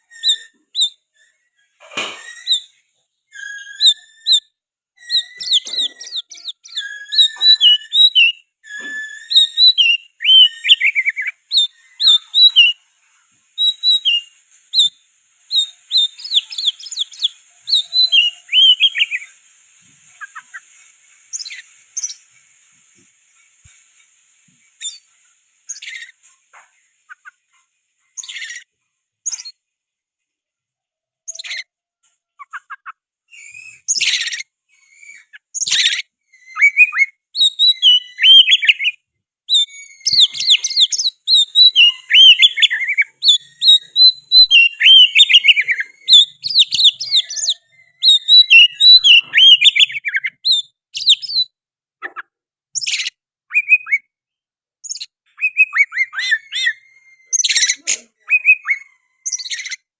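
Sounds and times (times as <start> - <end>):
magpie-robin singing: 0.0 - 12.8, 13.5 - 22.4, 28.2 - 29.6, 31.3 - 31.7, 32.4 - 54.1, 54.8 - 59.9
sharp bird calls: 0.0 - 29.6, 32.4 - 54.1, 54.8 - 59.9.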